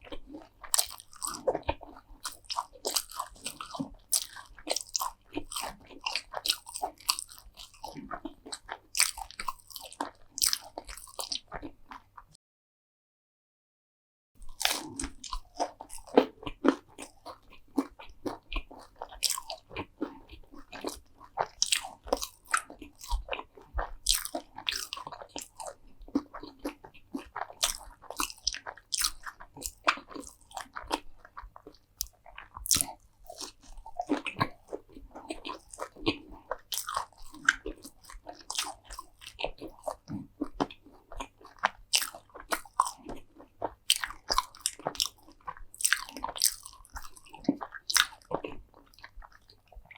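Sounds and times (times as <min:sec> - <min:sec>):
crunchy food chewing: 0:00.0 - 0:12.3, 0:14.4 - 0:49.9.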